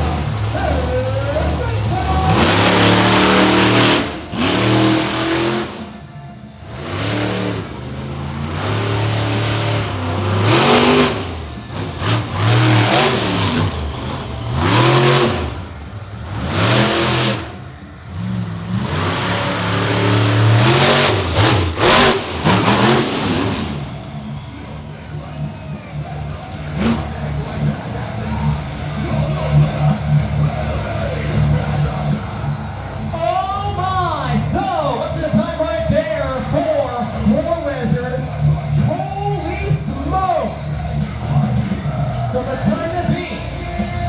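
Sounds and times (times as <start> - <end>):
monster truck engines revving: 0.0 - 44.0.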